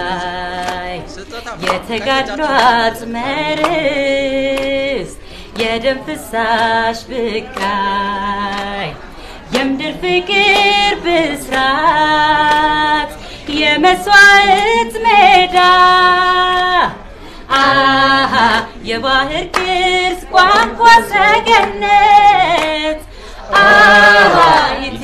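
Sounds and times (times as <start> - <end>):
female voice singing: 0.0 - 25.0
voices singing a song: 0.0 - 25.0.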